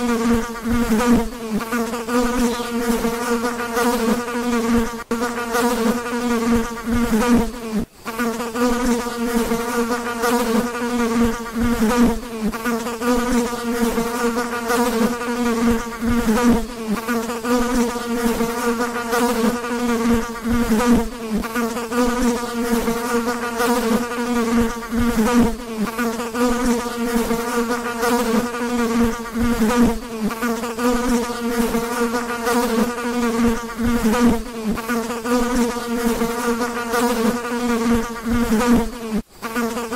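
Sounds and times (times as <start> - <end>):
fly buzzing: 0.0 - 39.9.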